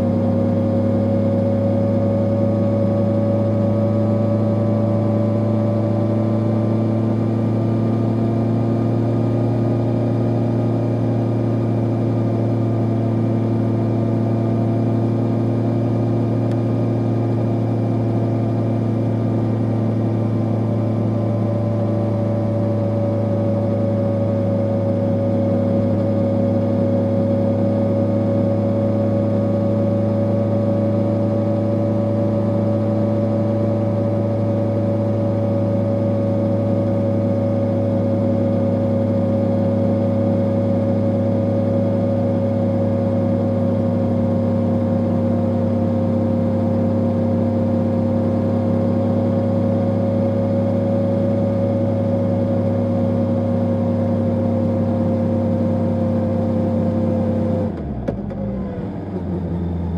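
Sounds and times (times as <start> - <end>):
motorcycle engine humming: 0.0 - 59.9.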